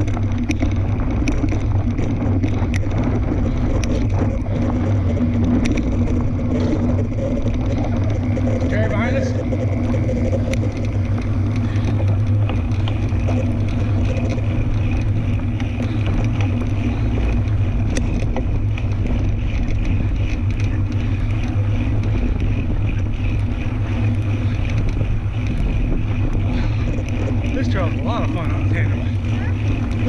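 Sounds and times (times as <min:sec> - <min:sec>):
bike tyre rumble: 0:00.0 - 0:30.0
small clicks and rattles: 0:00.0 - 0:30.0
wind buffeting microphone: 0:00.0 - 0:30.0.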